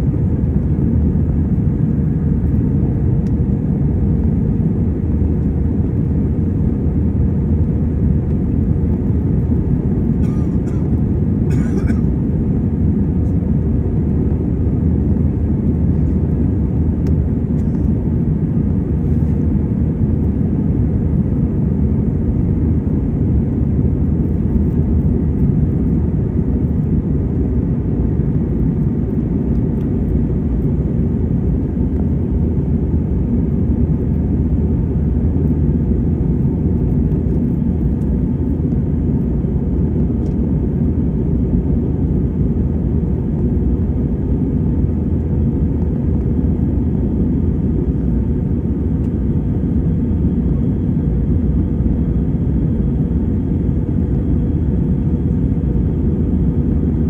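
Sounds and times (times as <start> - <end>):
aircraft engines and airflow rumble: 0.0 - 57.0.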